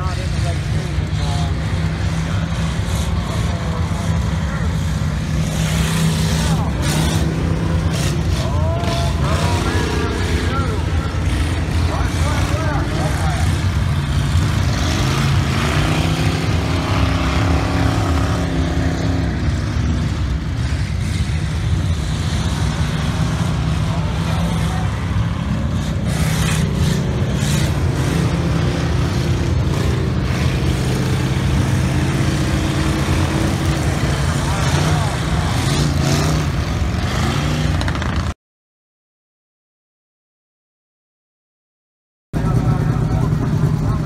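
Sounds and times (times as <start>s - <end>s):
stock car engines revving: 0.0s - 38.4s, 42.4s - 44.0s.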